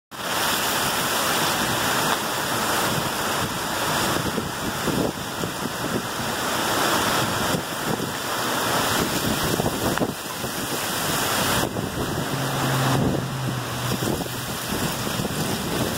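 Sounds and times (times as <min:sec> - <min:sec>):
wind rushing through trees: 0:00.1 - 0:15.9
wind buffeting microphone: 0:01.2 - 0:15.9.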